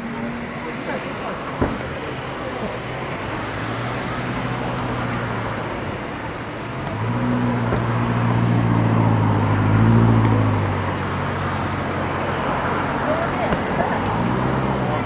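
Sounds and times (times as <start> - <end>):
vehicle engine hum passing by: 0.0 - 15.0.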